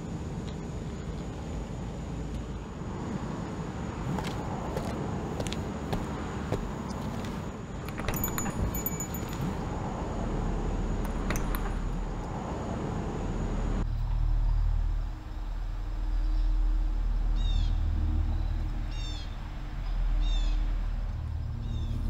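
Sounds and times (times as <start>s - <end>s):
outdoor street ambience: 0.0s - 22.0s.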